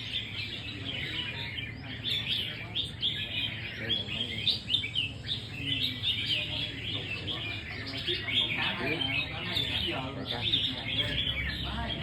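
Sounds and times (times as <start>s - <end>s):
birds chirping and warbling: 0.0s - 12.0s.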